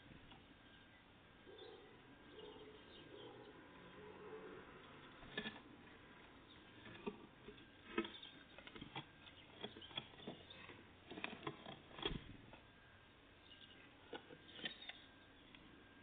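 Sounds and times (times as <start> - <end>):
birds pecking at feeder: 0.0 - 16.0.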